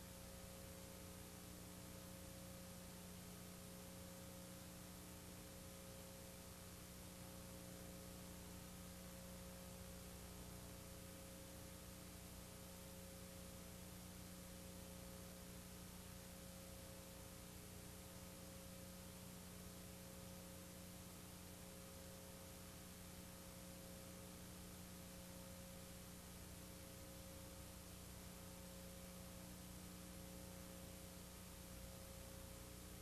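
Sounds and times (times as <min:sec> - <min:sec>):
electrical hum with hiss: 0:00.0 - 0:33.0.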